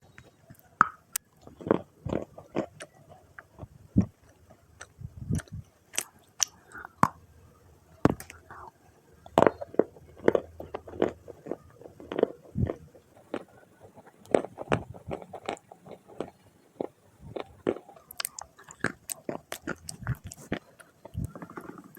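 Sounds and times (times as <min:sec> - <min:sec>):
clay being chewed: 0:00.1 - 0:07.2, 0:08.1 - 0:21.9.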